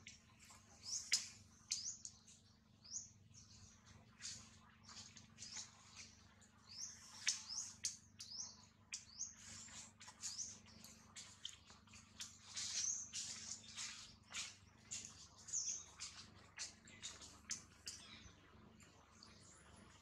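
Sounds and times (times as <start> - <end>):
faint low hum: 0.0 - 20.0
small birds chirping: 0.0 - 20.0.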